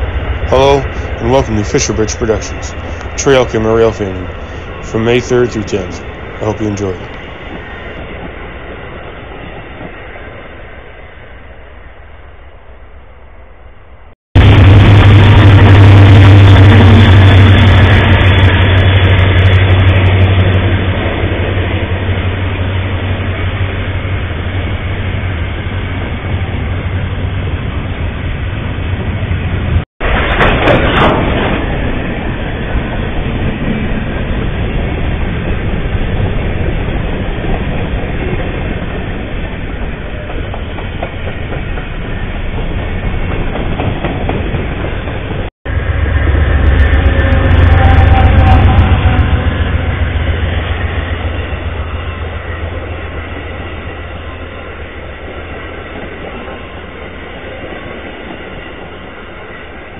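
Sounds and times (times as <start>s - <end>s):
rail cars clattering on track: 0.0s - 10.7s, 15.4s - 59.9s
freight train passing: 0.0s - 59.9s.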